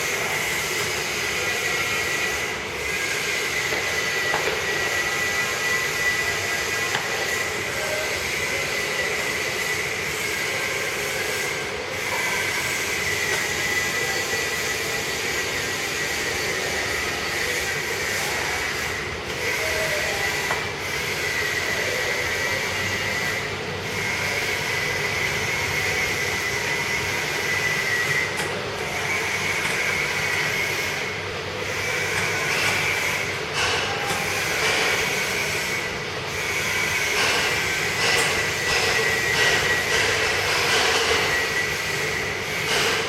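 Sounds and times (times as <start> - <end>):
grinding machine running: 0.0 - 43.0
high machine whine: 0.0 - 43.0.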